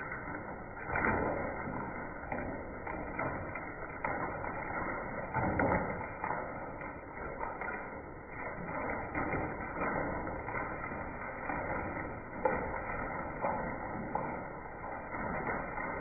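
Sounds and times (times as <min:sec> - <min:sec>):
hailstones cracking on hard surfaces: 0:00.0 - 0:16.0
rain and hail hissing: 0:00.0 - 0:16.0.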